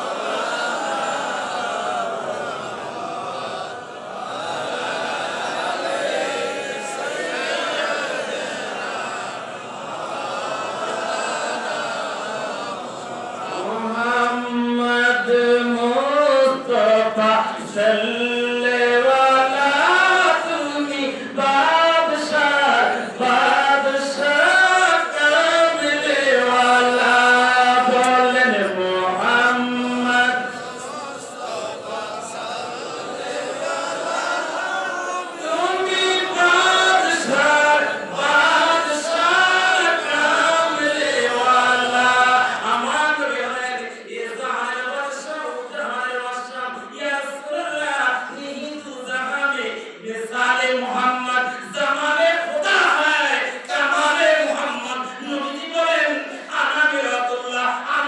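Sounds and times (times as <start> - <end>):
man chanting into microphone: 10.0 - 34.2, 35.0 - 58.0.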